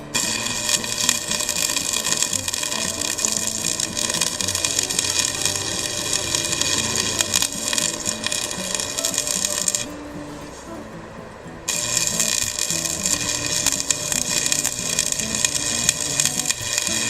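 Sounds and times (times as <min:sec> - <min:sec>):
welding arc crackling hiss: 0:00.0 - 0:10.8, 0:11.7 - 0:17.0.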